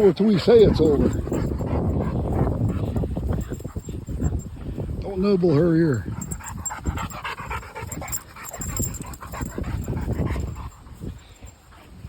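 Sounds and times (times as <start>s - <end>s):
dogs panting: 0.0s - 12.0s.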